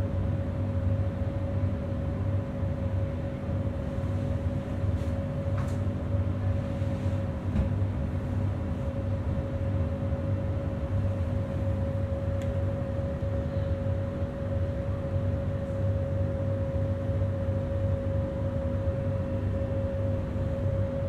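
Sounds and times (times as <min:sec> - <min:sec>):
constant hum: 0:00.0 - 0:21.0
electric train rumble: 0:00.0 - 0:21.0.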